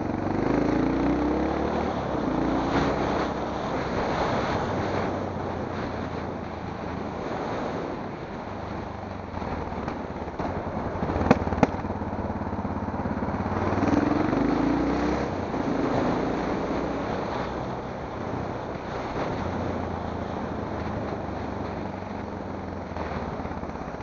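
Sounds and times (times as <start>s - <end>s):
rolling rumble over brick paving: 0.0s - 24.0s
wind noise: 0.0s - 24.0s.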